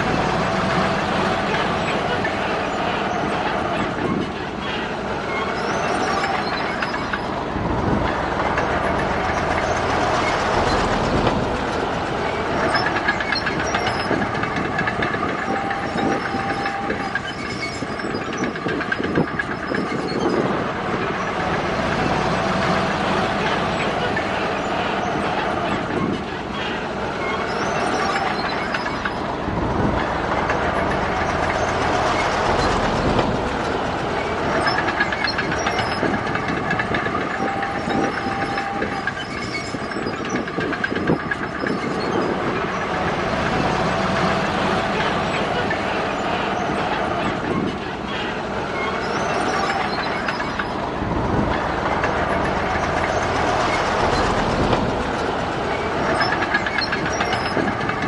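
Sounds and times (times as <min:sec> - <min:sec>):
bulldozer diesel engine running: 0:00.0 - 0:58.0
steel tracks clanking: 0:00.0 - 0:58.0
short metallic squeaks: 0:00.1 - 0:58.0.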